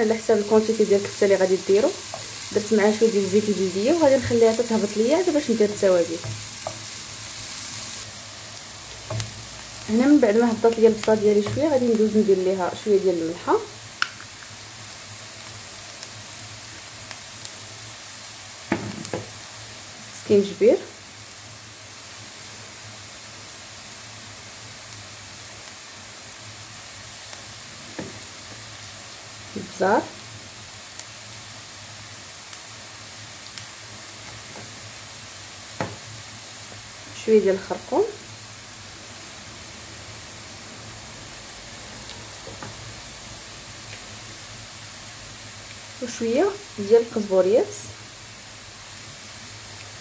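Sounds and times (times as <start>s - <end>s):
onions sizzling in oil: 0.0s - 50.0s.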